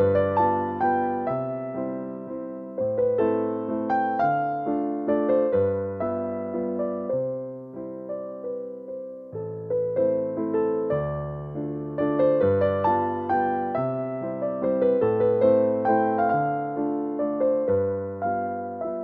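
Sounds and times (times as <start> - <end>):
slow piano waltz: 0.0 - 19.0.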